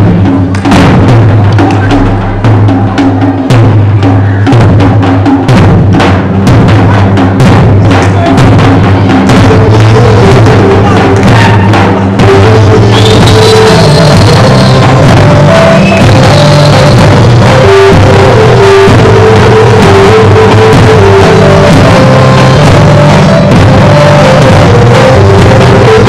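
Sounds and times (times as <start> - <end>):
loud folk drumming: 0.0 - 26.0
steady melody: 0.0 - 26.0.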